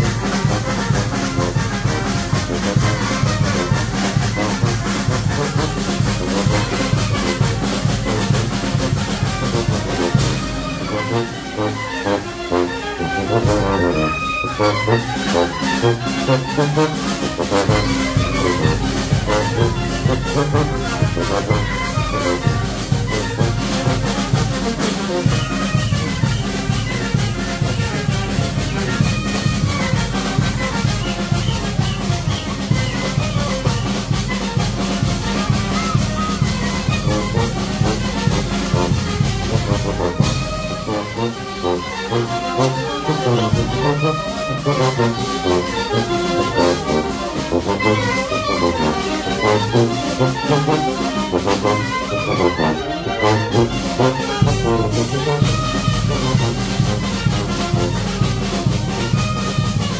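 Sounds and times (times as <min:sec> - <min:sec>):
brass instruments playing tune: 0:00.0 - 0:59.9.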